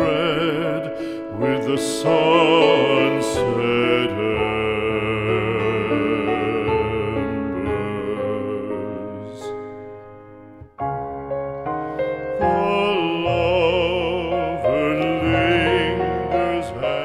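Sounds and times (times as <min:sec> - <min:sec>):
person singing with vibrato: 0:00.0 - 0:10.1, 0:11.9 - 0:17.0
piano chords: 0:00.0 - 0:17.0.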